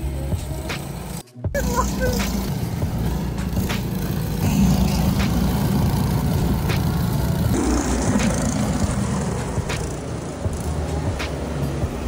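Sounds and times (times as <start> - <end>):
different engine noise: 0.0 - 12.0
snowblower engine running: 0.6 - 11.0.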